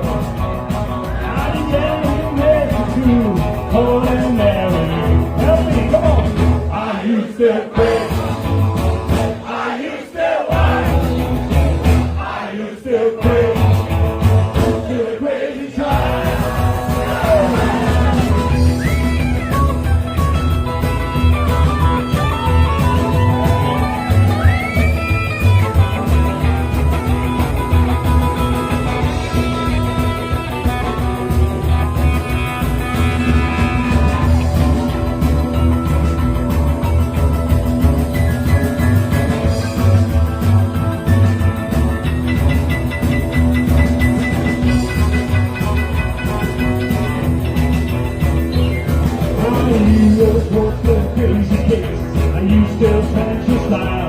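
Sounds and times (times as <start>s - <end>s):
electric guitar lead: 0.0s - 6.7s, 7.8s - 9.3s, 16.0s - 54.0s
rock band playing instrumental: 0.0s - 7.1s, 7.7s - 9.8s, 10.5s - 54.0s.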